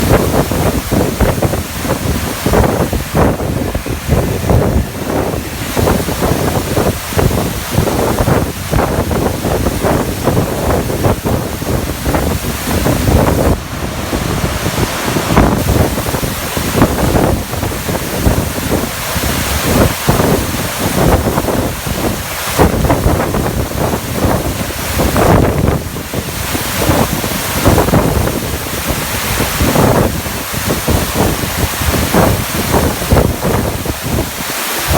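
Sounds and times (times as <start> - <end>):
waterfall pouring and crashing: 0.0 - 34.9.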